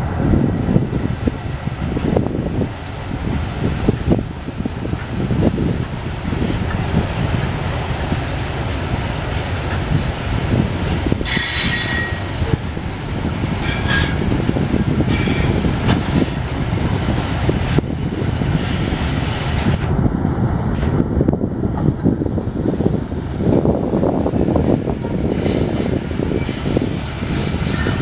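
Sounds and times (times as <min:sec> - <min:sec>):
train wagon wheels rumbling: 0:00.0 - 0:28.0.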